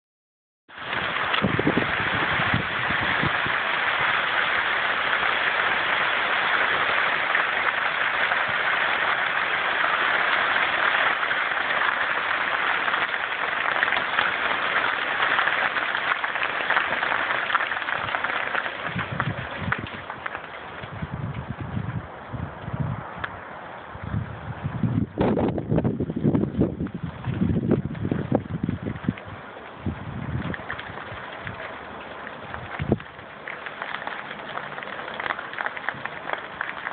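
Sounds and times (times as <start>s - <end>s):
hailstones pelting trampoline mat: 0.7s - 22.0s, 25.2s - 36.9s.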